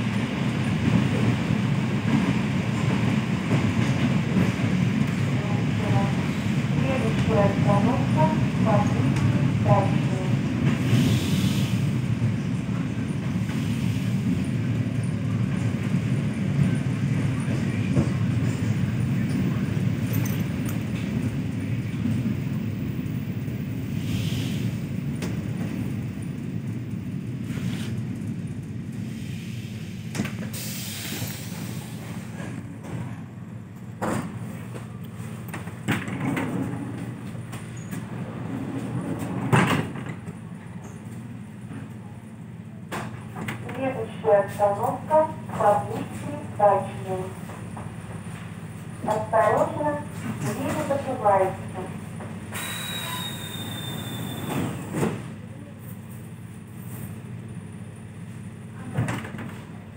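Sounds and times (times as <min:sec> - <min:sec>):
train wheels and motors rumbling: 0:00.0 - 0:59.9.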